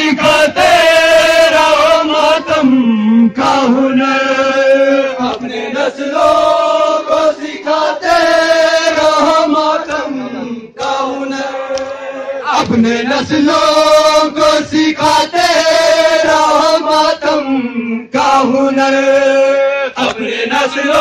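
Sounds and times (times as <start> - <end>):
men chanting a mourning lament: 0.0 - 21.0.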